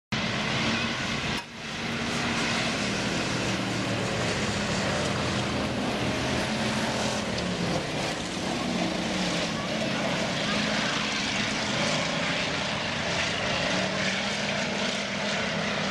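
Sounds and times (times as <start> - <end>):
race car engines droning: 0.1 - 15.9.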